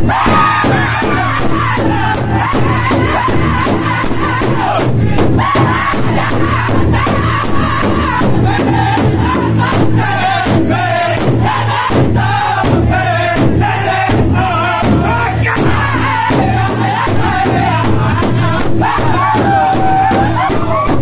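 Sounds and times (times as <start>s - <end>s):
large hide drum beating: 0.0s - 21.0s
men singing in high voices: 0.0s - 21.0s.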